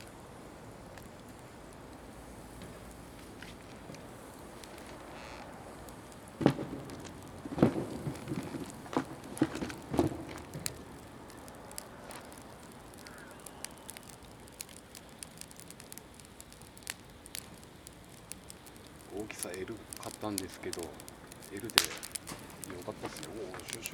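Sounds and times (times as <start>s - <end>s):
wood fire crackling pops: 0.0s - 23.9s.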